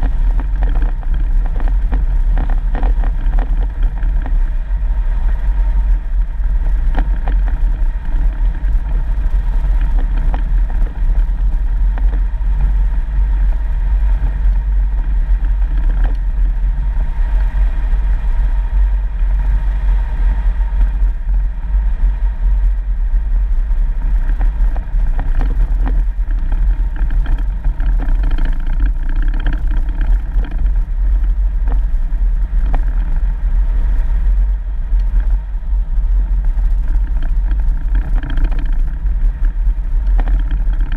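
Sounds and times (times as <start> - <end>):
vehicle engine and tyre rumble: 0.0 - 40.9.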